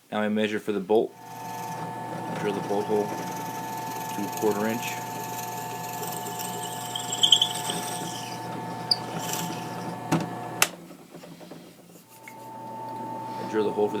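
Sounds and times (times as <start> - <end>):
electric drill boring wood: 1.2 - 14.0.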